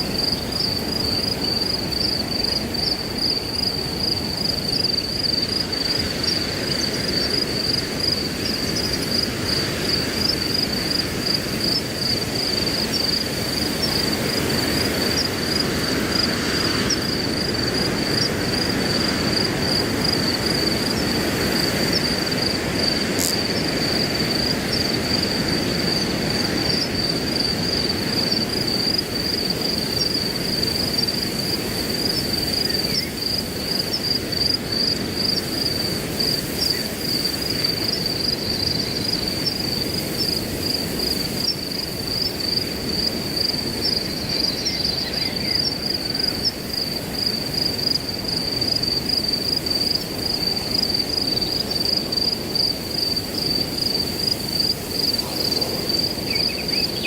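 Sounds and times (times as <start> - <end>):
crickets chirping: 0.0 - 57.0
wind through grass: 0.0 - 57.0.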